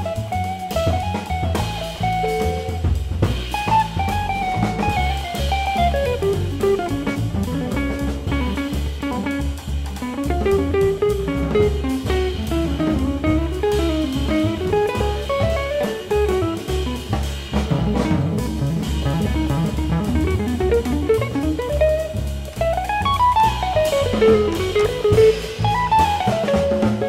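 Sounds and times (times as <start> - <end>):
drum kit: 0.0 - 27.0
electric guitar melody: 0.0 - 27.0
upright bass: 0.0 - 27.0.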